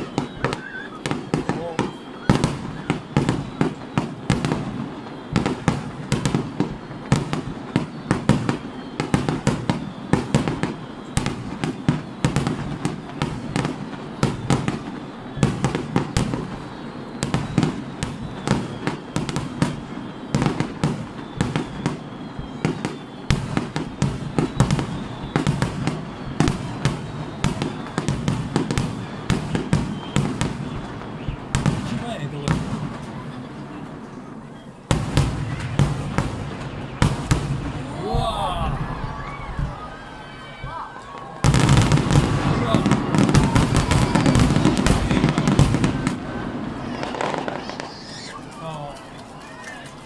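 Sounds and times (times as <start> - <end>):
fireworks bursting: 0.0 - 50.0.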